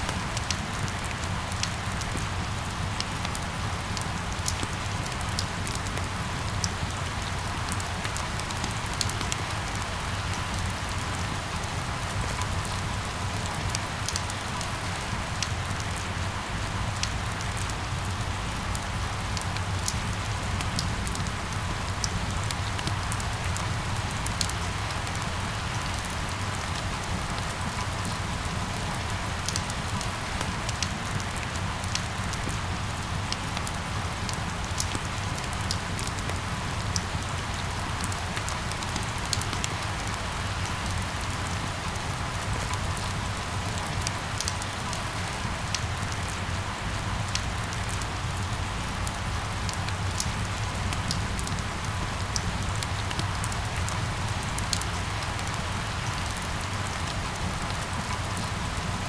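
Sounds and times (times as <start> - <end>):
rain on hard surfaces: 0.0 - 59.0.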